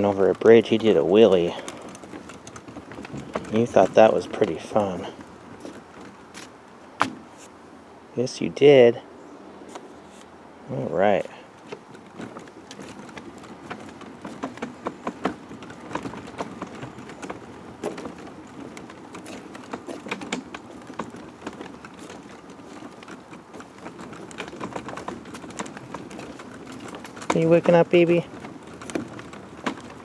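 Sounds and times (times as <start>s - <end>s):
stroller wheels knocking on planks: 0.0s - 7.4s, 11.6s - 30.0s
stroller rolling rumble: 0.0s - 30.0s.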